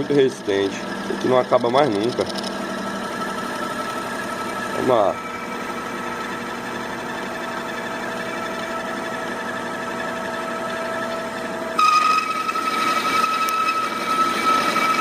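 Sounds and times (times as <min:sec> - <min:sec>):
power tool cutting steel: 0:00.0 - 0:15.0.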